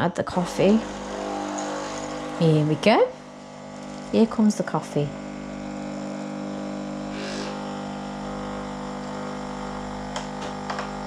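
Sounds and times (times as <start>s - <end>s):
coffee machine pump humming: 0.1s - 11.0s.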